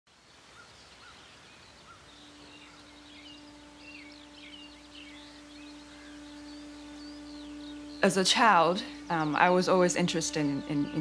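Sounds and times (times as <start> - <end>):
faint outdoor hiss: 0.1 - 11.0
birds chirping and singing: 0.3 - 11.0
low held drone note: 2.0 - 11.0.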